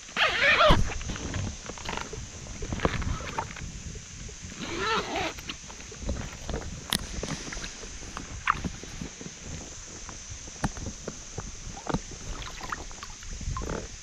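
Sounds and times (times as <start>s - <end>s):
water sounds: 0.8s - 14.0s.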